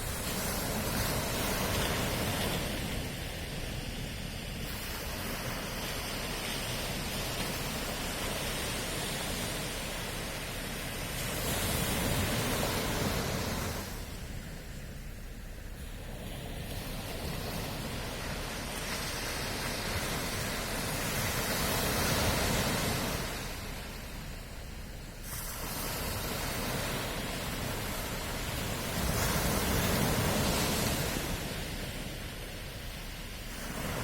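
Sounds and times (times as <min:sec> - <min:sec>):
ocean waves breaking on shore: 0:00.0 - 0:34.0.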